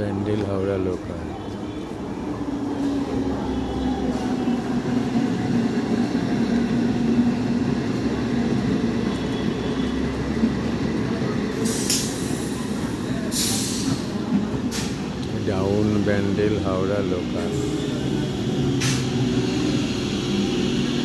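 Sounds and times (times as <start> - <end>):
train wheels rumbling: 1.9 - 21.0.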